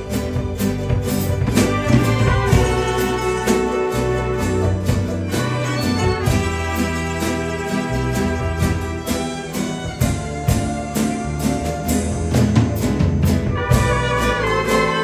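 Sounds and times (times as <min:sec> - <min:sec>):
instrumental church music: 0:00.0 - 0:15.0.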